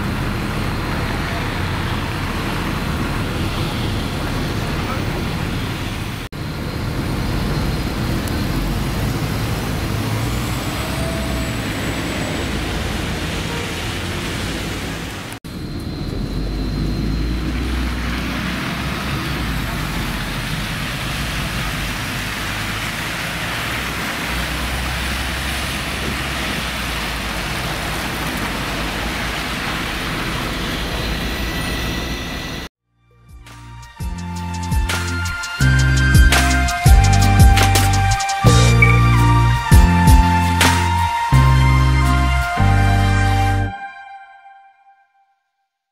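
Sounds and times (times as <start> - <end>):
bus engine rumble: 0.0 - 32.7, 34.0 - 43.8
street traffic: 0.0 - 32.7, 33.4 - 43.8.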